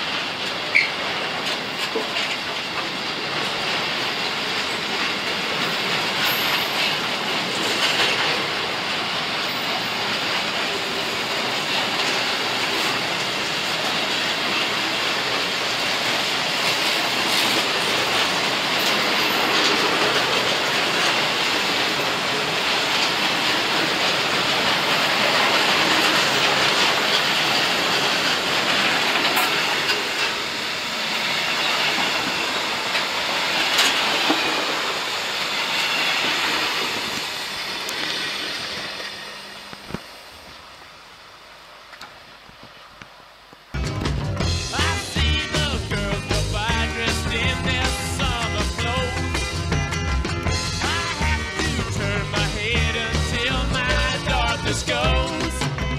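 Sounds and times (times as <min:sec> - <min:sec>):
wheels rolling on rail: 0:00.0 - 0:55.9.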